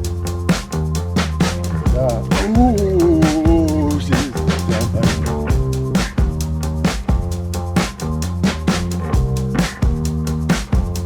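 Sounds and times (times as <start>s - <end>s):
music with drums and funky bass: 0.0s - 11.0s.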